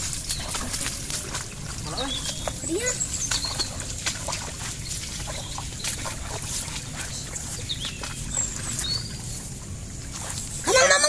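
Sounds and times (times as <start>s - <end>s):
footsteps wading through water: 0.0s - 11.0s.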